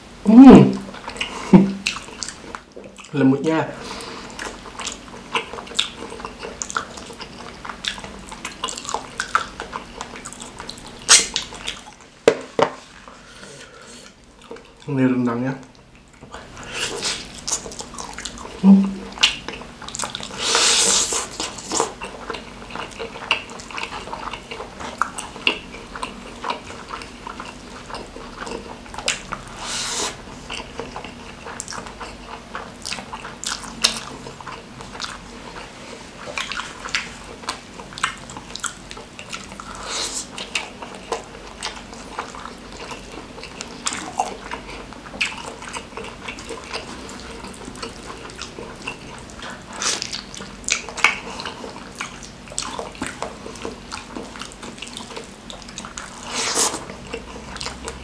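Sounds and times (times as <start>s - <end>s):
person chewing and biting food: 3.9s - 14.9s, 15.8s - 58.0s.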